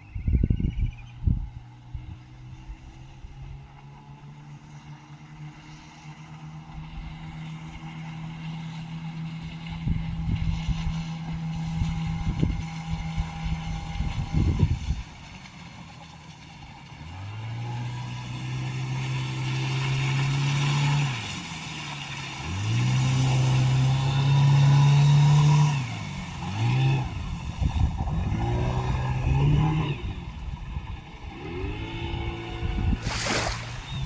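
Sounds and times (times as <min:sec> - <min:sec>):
outboard motor revving: 0:00.0 - 0:34.0.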